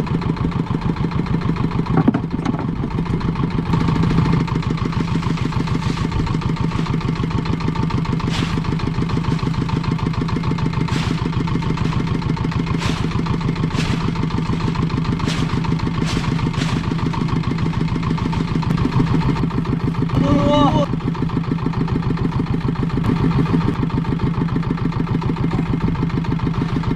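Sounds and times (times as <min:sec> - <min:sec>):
boat engine running: 0:00.0 - 0:26.9.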